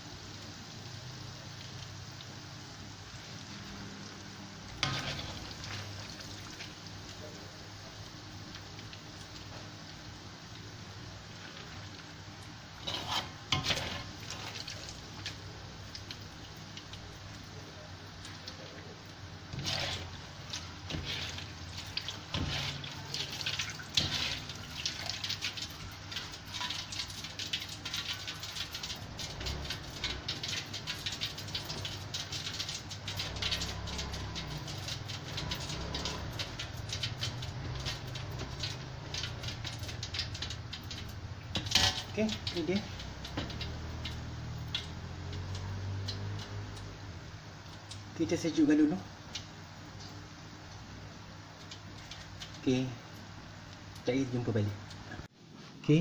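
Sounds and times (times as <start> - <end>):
peanuts sizzling in oil: 0.0 - 55.3.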